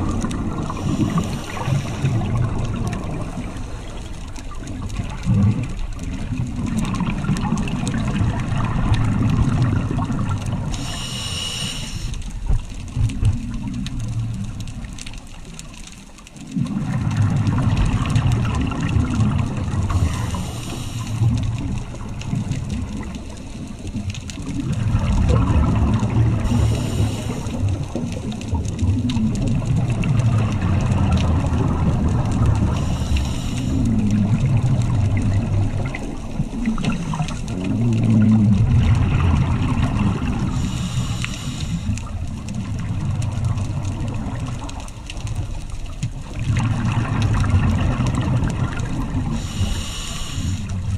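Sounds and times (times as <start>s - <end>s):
muffled underwater rumble: 0.0s - 50.9s
faint scattered clicks: 0.1s - 50.9s.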